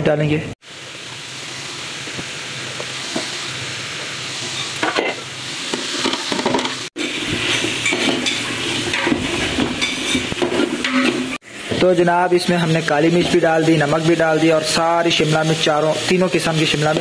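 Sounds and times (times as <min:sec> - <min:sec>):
food sizzling in oil: 0:00.6 - 0:17.0.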